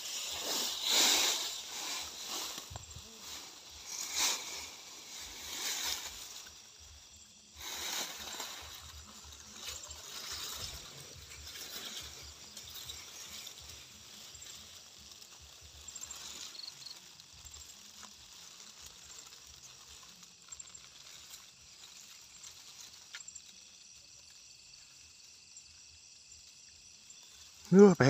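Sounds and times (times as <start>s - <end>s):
grass rustling: 0.0s - 28.0s
night insects chirring: 0.0s - 28.0s.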